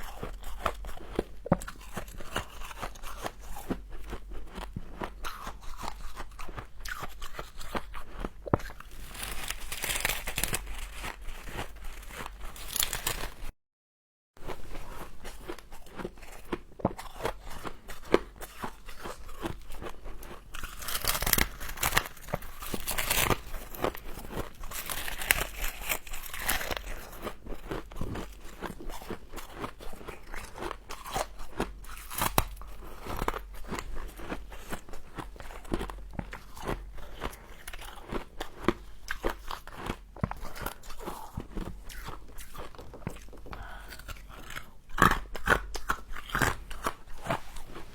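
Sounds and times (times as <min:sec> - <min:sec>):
crunching and chewing of frost: 0:00.0 - 0:13.5, 0:14.4 - 0:47.9.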